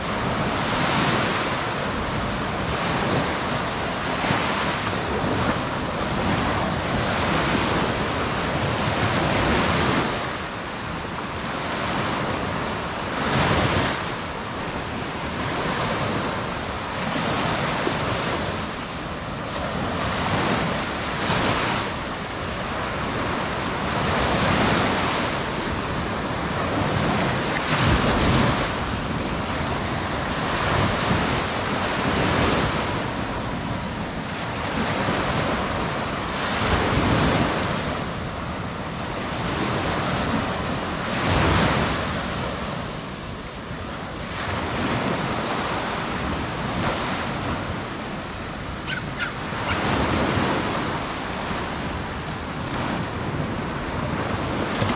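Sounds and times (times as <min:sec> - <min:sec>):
sea surf washing onto beach: 0:00.0 - 0:54.9
wind buffeting microphone: 0:00.0 - 0:54.9.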